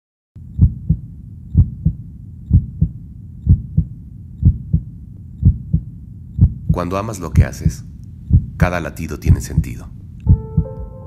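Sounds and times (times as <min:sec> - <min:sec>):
low steady hum: 0:00.4 - 0:11.0
heartbeat thumps: 0:00.5 - 0:11.0.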